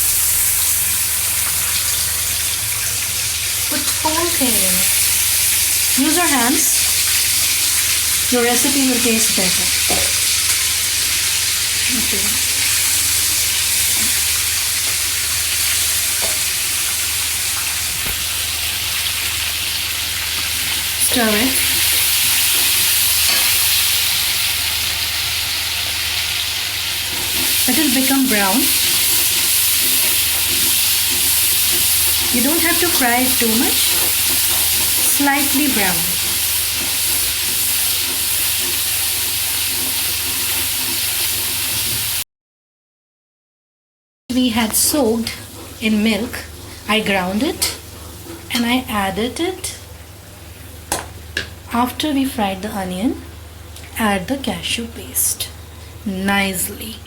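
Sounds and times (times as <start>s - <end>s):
onion sizzling in oil: 0.0s - 42.2s, 44.6s - 56.9s.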